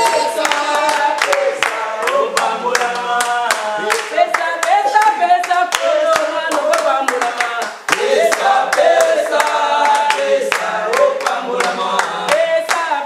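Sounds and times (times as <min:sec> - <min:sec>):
congregation singing: 0:00.0 - 0:13.0
rhythmic hand clapping: 0:00.0 - 0:13.0.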